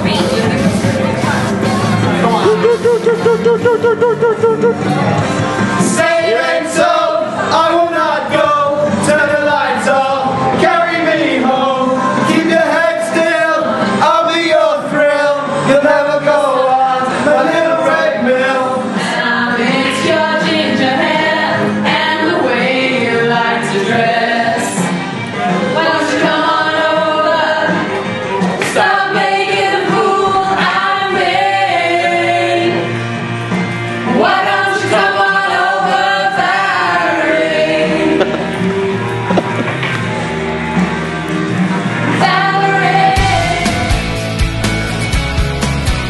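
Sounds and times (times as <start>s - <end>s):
voices singing together with music: 0.0s - 46.0s.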